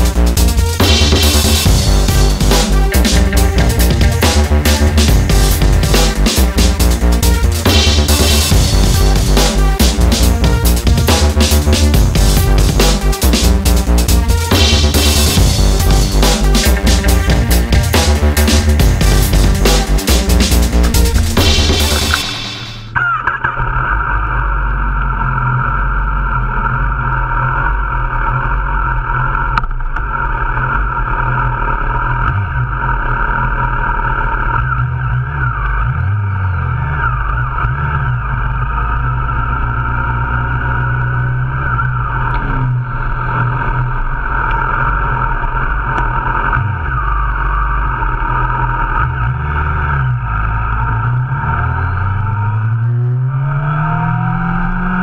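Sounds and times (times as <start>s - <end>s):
motorcycle engines idling and revving: 0.0s - 23.0s, 23.6s - 55.0s.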